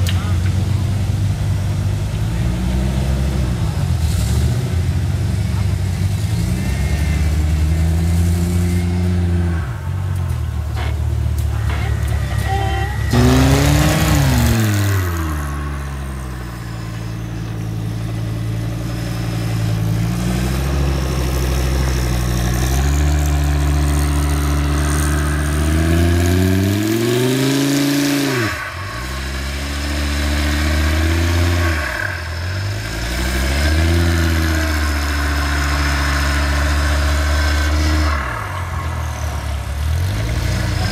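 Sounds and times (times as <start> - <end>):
buggy engine revving: 0.0 - 40.9.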